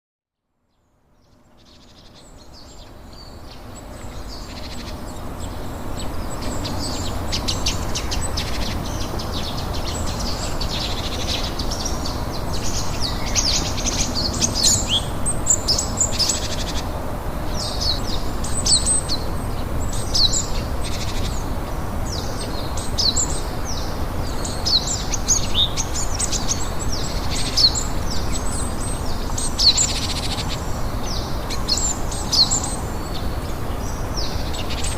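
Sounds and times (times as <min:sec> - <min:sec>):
birds chirping and twittering: 0:01.2 - 0:34.9.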